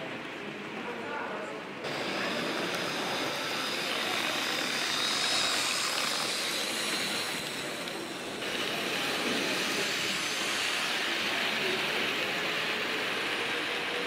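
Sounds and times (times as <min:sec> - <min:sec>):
hall hubbub: 0:00.0 - 0:14.0
model train motor whirring: 0:01.8 - 0:14.0
wheels running on rails: 0:01.8 - 0:14.0.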